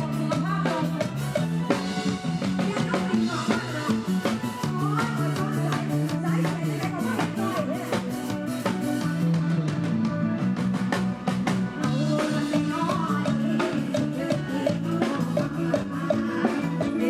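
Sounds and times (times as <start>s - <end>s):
bass line: 0.0s - 17.0s
drum kit beat: 0.0s - 17.0s
live band music: 0.0s - 17.0s.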